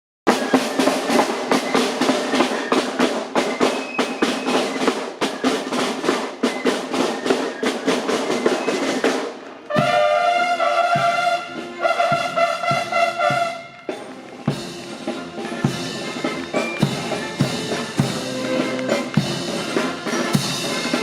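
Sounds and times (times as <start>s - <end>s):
brass band playing: 0.3s - 21.0s
snare drum cadence: 0.3s - 21.0s.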